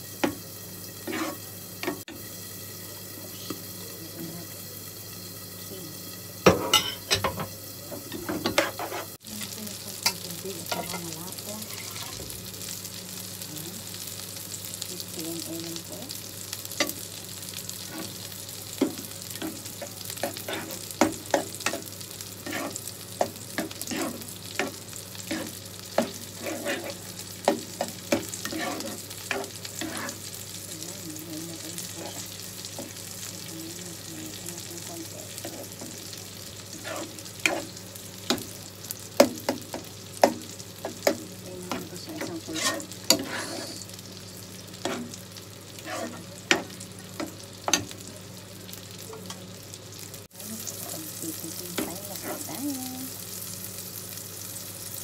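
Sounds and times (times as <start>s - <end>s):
sauce sizzling: 0.0s - 55.0s.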